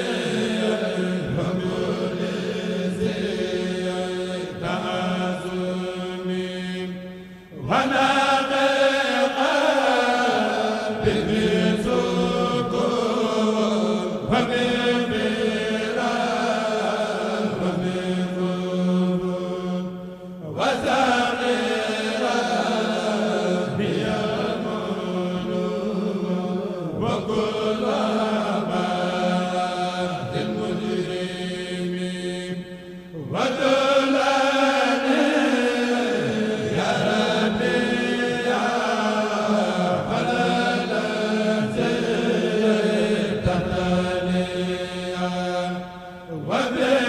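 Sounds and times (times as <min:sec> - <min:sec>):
low held vocal drone: 0:00.0 - 0:47.0
men chanting in unison: 0:00.0 - 0:47.0.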